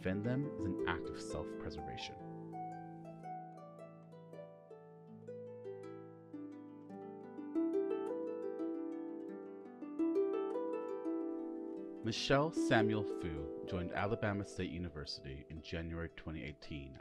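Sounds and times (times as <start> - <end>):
harp music: 0.0 - 17.0.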